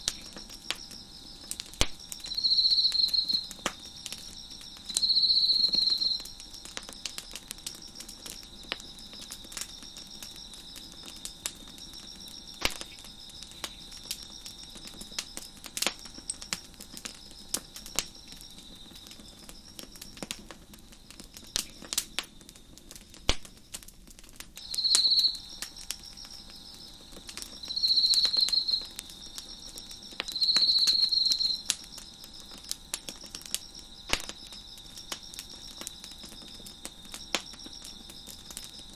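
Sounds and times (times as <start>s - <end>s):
close cricket trilling: 0.0s - 23.9s, 24.6s - 38.9s
crickets chirping: 0.0s - 38.9s
wood fire crackling and popping: 0.0s - 38.9s.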